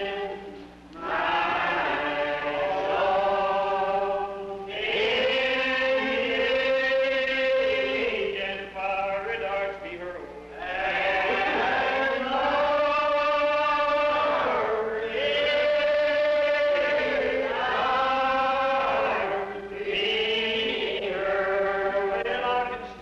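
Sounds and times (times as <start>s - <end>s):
congregation singing a hymn: 0.0s - 23.0s.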